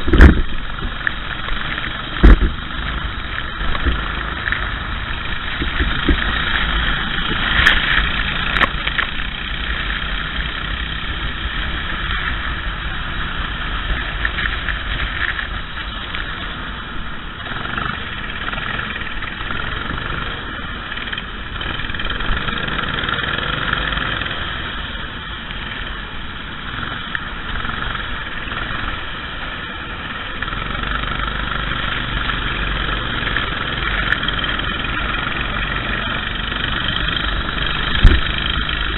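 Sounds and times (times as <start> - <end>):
kart engine running: 0.0 - 38.9.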